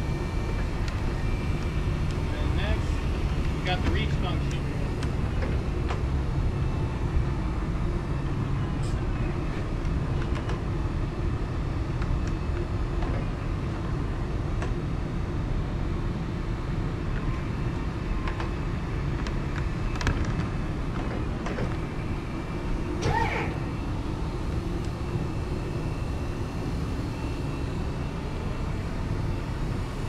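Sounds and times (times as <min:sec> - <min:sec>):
faint motor hum: 0:00.0 - 0:30.0.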